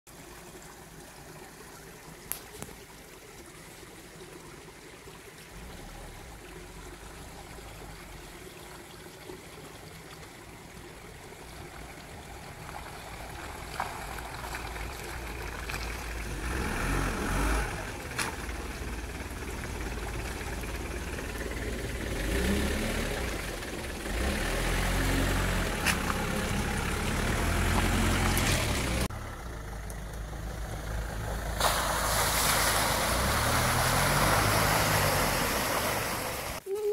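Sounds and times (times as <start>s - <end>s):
van engine rumbling: 5.5s - 36.9s.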